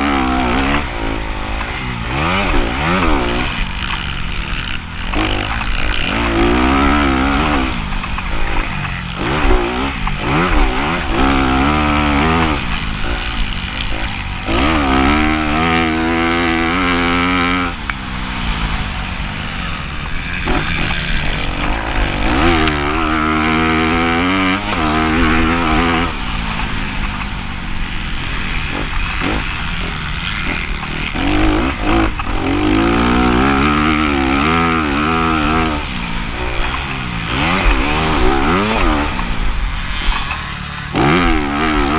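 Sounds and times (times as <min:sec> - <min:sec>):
dirt bike engine revving: 0:00.0 - 0:41.9
steady rushing noise: 0:00.0 - 0:41.9.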